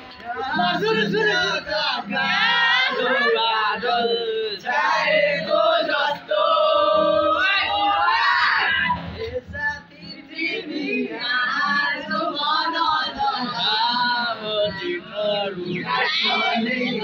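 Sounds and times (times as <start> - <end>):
boys singing together: 0.0 - 17.0.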